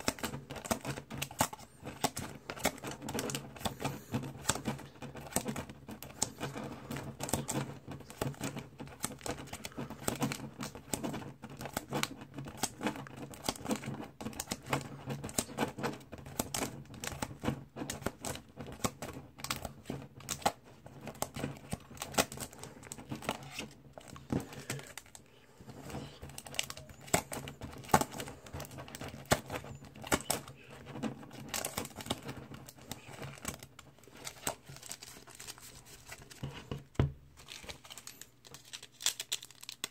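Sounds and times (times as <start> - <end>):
plastic wrappers crinkling and tearing: 0.0 - 36.7, 37.3 - 39.9.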